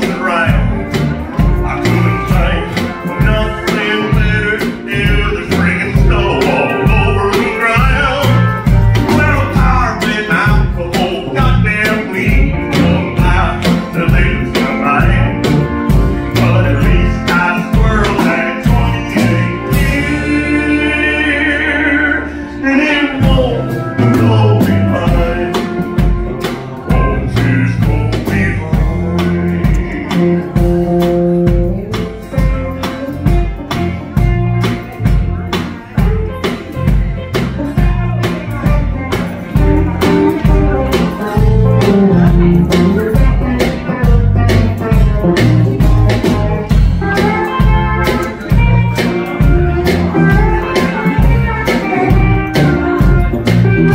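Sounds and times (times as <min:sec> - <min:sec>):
country band playing: 0:00.0 - 0:53.9
drums: 0:00.0 - 0:53.9
pedal steel guitar: 0:00.0 - 0:53.9.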